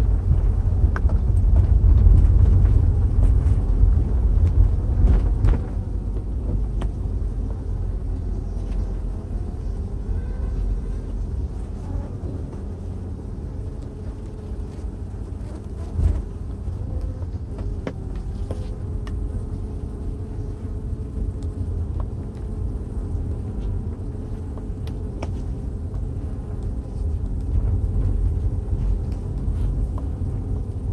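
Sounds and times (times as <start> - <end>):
bee colony rumbling: 0.0 - 30.9
faint steady hum: 0.0 - 30.9
vehicle road noise: 0.0 - 30.9.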